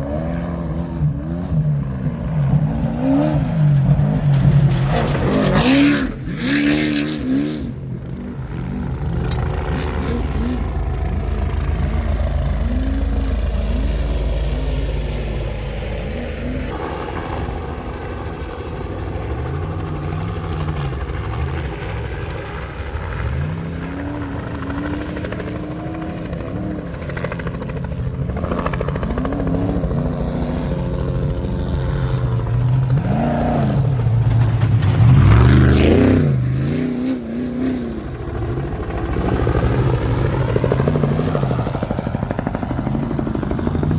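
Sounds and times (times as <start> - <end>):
race vehicle engines revving: 0.0 - 43.9.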